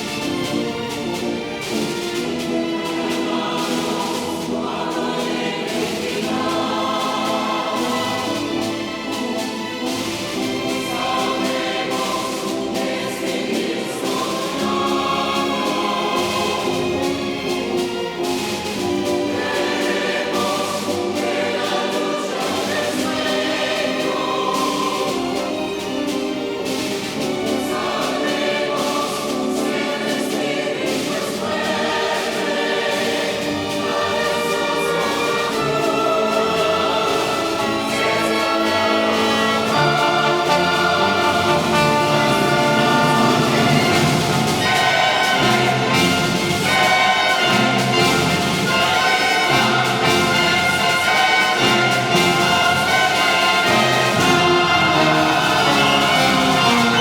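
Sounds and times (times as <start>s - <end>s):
choir singing: 0.0s - 57.0s
orchestra playing: 0.0s - 57.0s.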